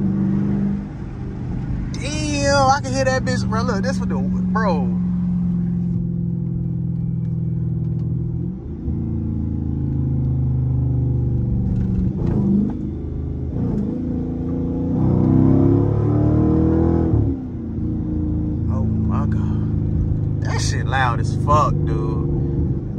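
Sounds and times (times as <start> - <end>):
loud car engine accelerating: 0.0 - 22.9.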